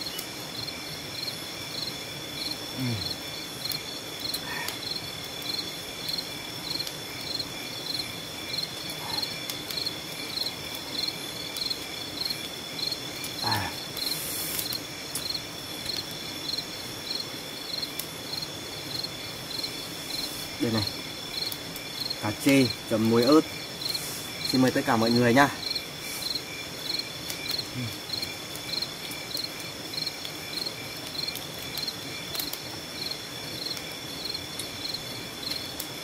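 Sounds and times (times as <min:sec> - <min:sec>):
pulsing insect chirp: 0:00.0 - 0:36.0.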